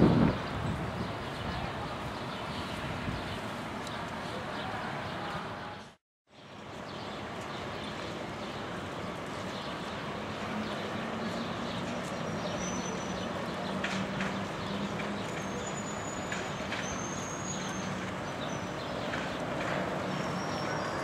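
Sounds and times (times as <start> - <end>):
city noise: 0.0 - 21.0.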